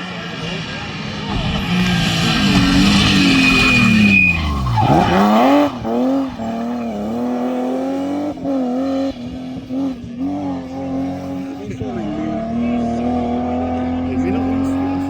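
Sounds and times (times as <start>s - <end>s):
rally car engine passing: 0.0s - 15.0s.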